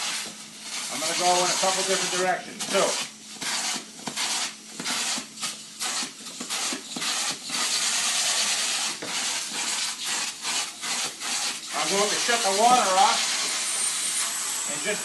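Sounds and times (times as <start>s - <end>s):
tool rubbing over fabric cushion: 0.0s - 15.0s.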